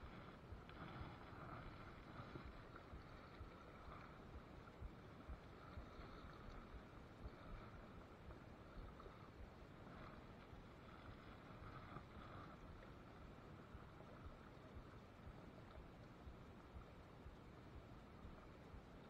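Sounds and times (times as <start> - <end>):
flowing river water: 0.0 - 19.0
low rumble on microphone: 0.0 - 19.0.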